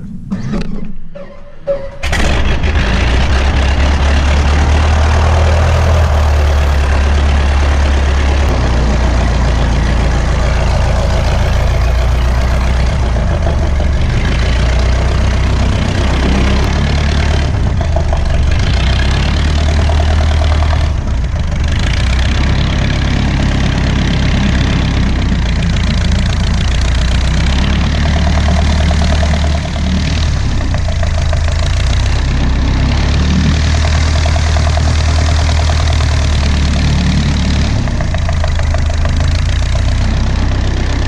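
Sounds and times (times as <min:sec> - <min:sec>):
piston engine starting and idling: 0:01.7 - 0:41.0.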